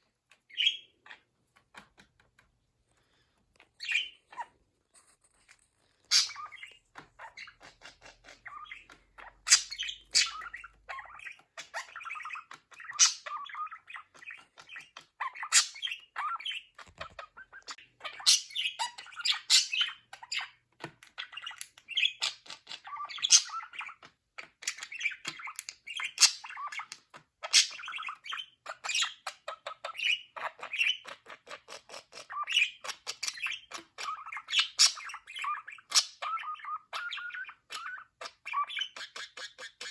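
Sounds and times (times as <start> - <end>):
budgerigars chirping and warbling: 0.3 - 2.4, 3.0 - 39.9.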